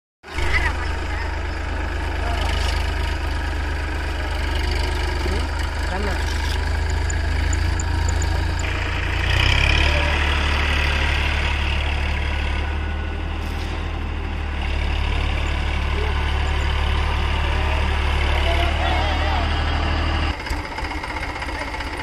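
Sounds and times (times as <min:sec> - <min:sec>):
tractor diesel engine running: 0:00.2 - 0:22.0.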